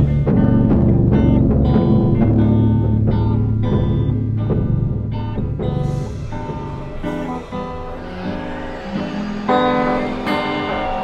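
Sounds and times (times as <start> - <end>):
low bass note: 0.0 - 10.2
plucked guitar riff: 0.0 - 11.0.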